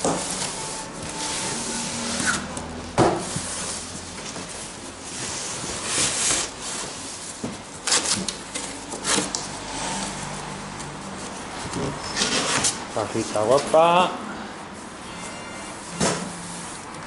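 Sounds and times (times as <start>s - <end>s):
cardboard boxes scraping: 0.0s - 13.8s.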